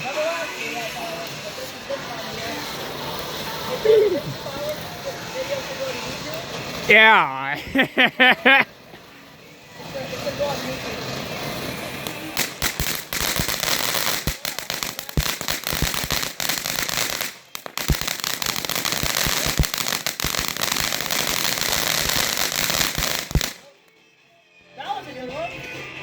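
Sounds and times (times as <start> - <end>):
firework hissing and crackling: 0.0 - 23.8.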